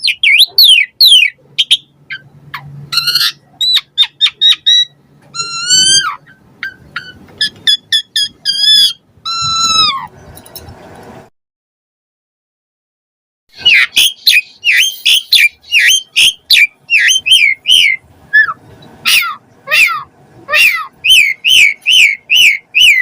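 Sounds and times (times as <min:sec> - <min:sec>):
starling singing: 0:00.0 - 0:10.4, 0:13.5 - 0:23.0.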